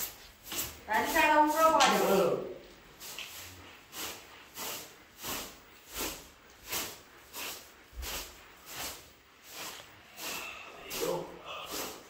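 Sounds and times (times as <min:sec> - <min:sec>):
broom sweeping carpet: 0:00.0 - 0:12.0.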